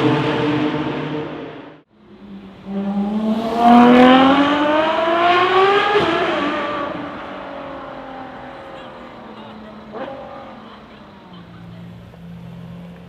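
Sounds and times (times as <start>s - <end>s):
different engine note: 0.0s - 12.5s
car engine accelerating hard: 0.0s - 13.0s.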